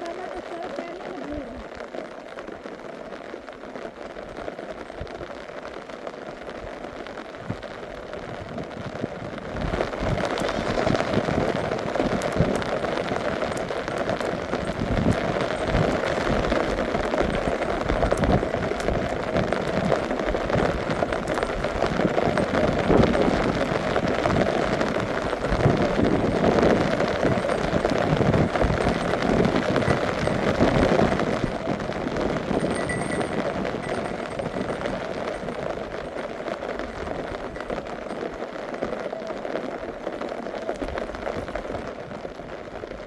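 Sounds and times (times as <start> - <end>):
rain falling: 0.0 - 43.0.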